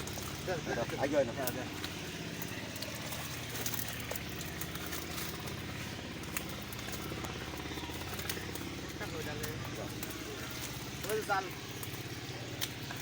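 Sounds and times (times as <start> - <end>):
engine humming at low speed: 0.0 - 13.0.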